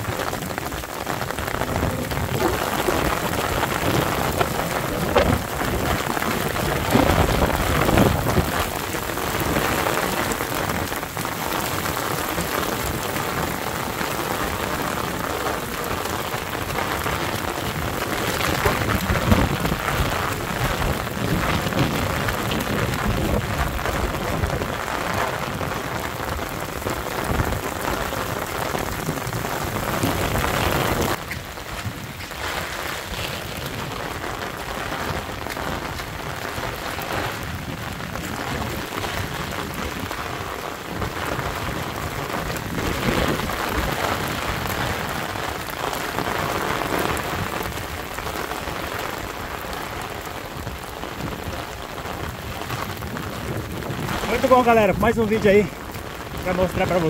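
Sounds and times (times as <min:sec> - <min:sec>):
heavy rain on asphalt: 0:00.0 - 0:57.0.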